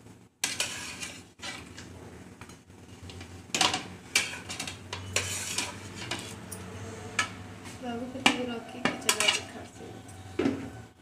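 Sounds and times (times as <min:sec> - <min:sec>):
metal spatula scraping plate: 0:00.4 - 0:01.9, 0:02.9 - 0:10.3.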